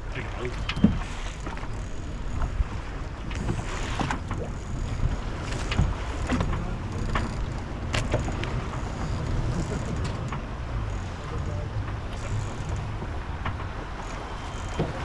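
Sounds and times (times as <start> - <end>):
rumble of wind and water: 0.0 - 15.0.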